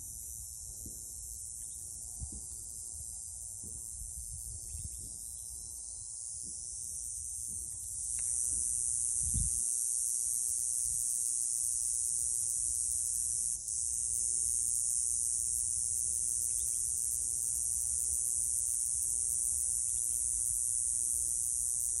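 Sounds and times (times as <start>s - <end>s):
cicadas singing: 0.0s - 22.0s.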